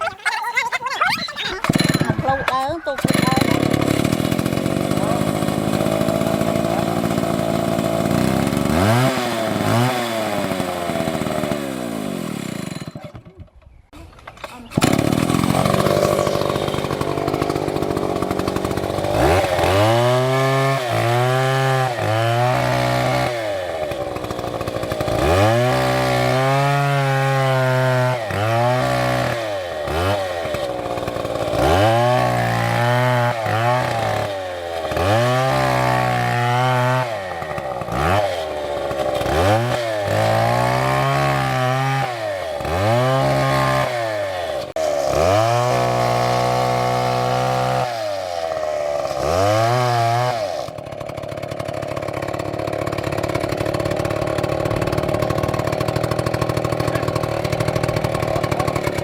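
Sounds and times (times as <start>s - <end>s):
chainsaw cutting wood: 3.0s - 13.2s, 14.2s - 59.0s.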